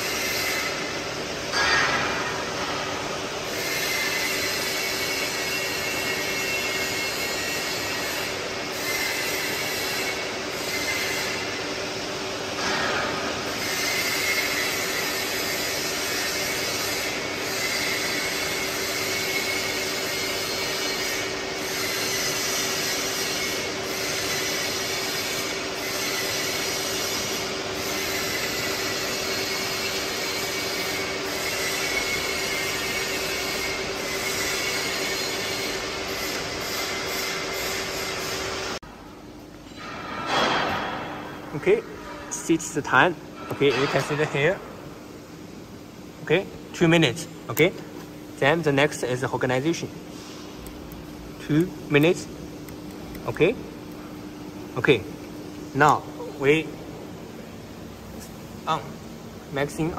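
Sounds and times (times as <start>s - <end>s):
mechanical hum with high whine: 0.0s - 59.9s.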